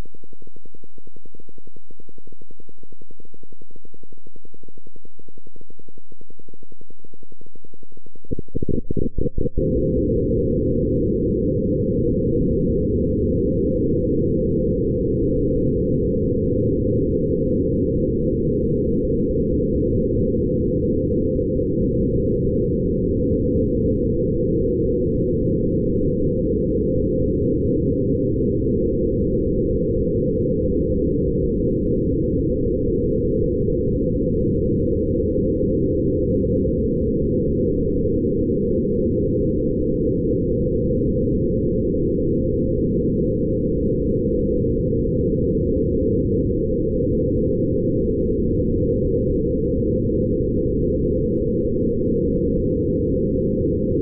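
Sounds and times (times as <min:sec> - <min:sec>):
low ambient drone: 0:03.6 - 0:54.0.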